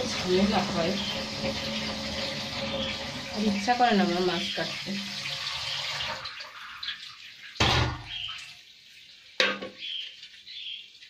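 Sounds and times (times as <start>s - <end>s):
water running from tap: 0.0s - 11.0s.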